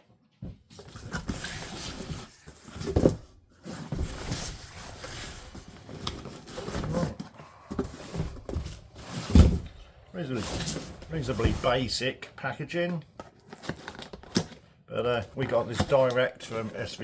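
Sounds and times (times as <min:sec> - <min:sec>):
cardboard rustling and scraping: 0:00.7 - 0:12.1, 0:13.2 - 0:17.0.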